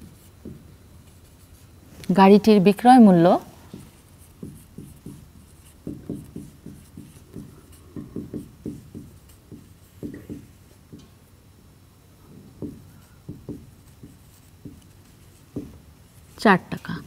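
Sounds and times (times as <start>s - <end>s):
marker writing on whiteboard: 0.0s - 1.7s, 3.6s - 11.3s, 12.2s - 17.0s.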